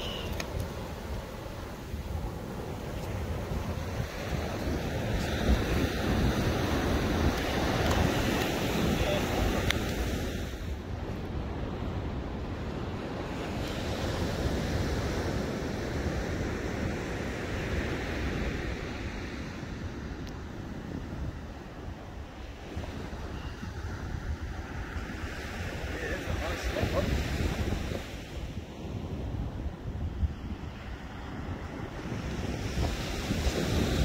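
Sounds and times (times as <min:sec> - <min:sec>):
surf washing up beach: 0:00.0 - 0:34.0
wind buffeting microphone: 0:00.0 - 0:34.0.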